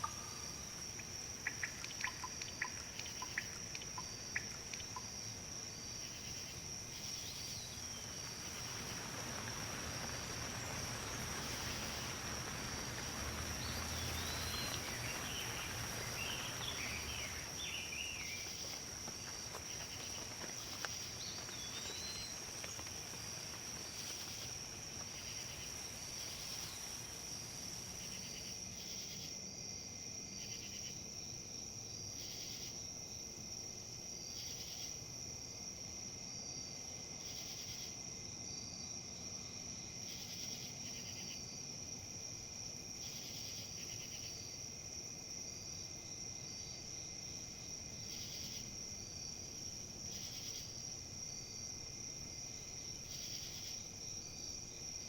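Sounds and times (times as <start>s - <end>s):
short pulsed insect calls: 0.0s - 29.3s, 40.0s - 55.0s
insects trilling: 0.0s - 55.0s
wind rustling leaves: 0.0s - 55.0s.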